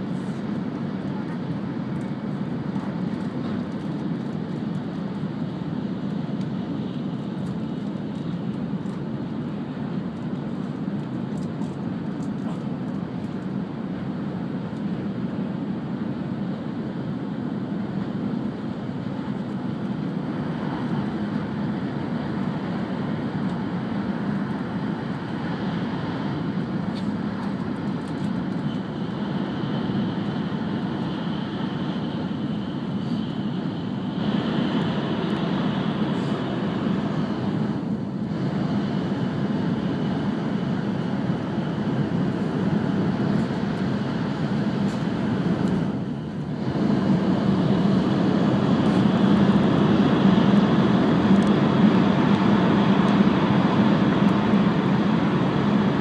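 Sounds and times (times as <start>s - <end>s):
train cabin running noise: 0.0s - 56.0s.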